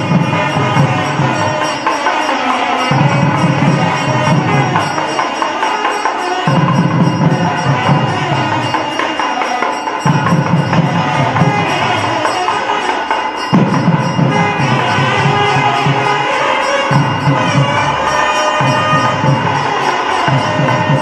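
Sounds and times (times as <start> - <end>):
jingling percussion: 0.0 - 21.0
low heavy percussion: 0.0 - 21.0.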